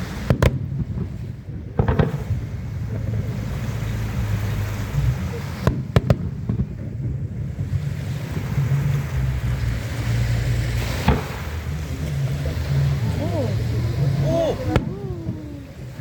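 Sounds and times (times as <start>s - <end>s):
fireworks bangs: 0.0s - 16.0s
wind rumble on microphone: 0.0s - 16.0s.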